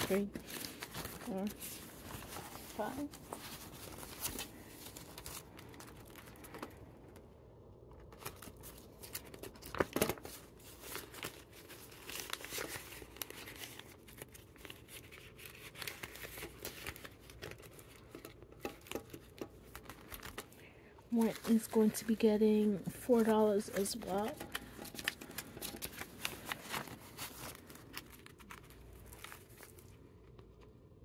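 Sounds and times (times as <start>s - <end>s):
paper money and plastic rustling: 0.0s - 31.0s.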